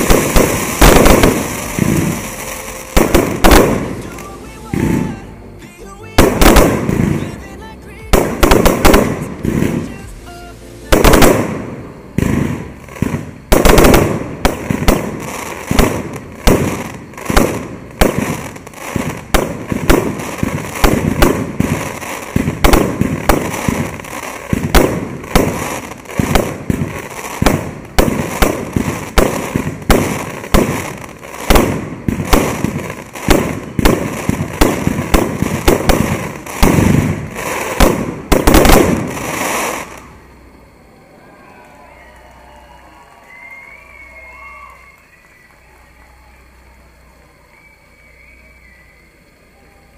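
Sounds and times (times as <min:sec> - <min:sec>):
fireworks bangs: 0:00.0 - 0:49.4
fireworks crackling: 0:00.0 - 0:49.9.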